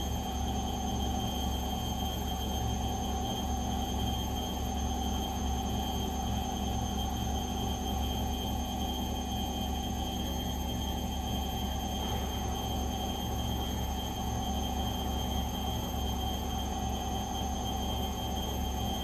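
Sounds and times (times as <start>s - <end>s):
washing machine hum and rumble: 0.0s - 19.0s.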